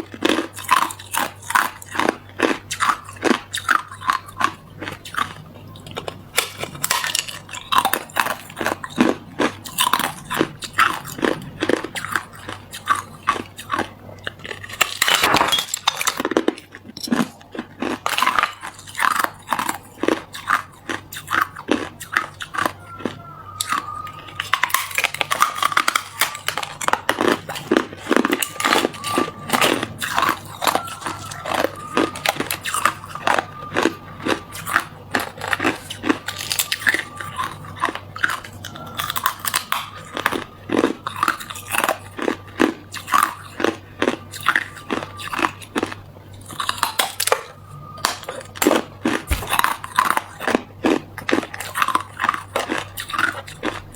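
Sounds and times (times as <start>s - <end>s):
person chewing ice crunching: 0.0s - 53.9s.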